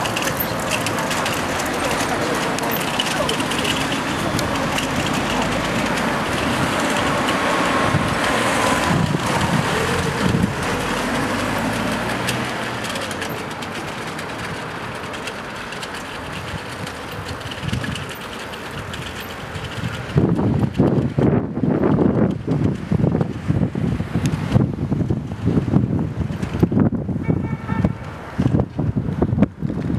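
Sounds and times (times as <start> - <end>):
city street traffic: 0.0 - 29.9.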